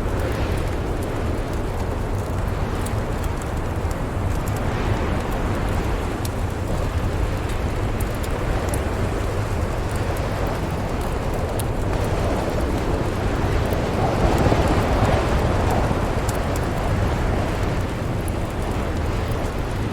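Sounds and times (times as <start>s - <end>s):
storm wind rumbling: 0.0s - 19.9s
wood fire crackling: 0.0s - 19.9s.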